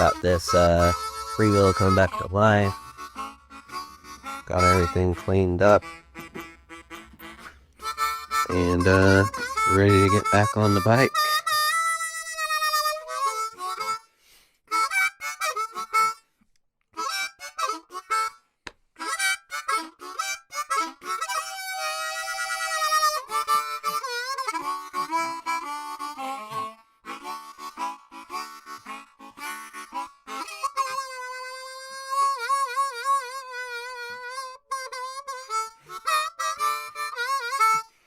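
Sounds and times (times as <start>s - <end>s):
harmonica playing: 0.0s - 16.3s, 17.0s - 38.0s.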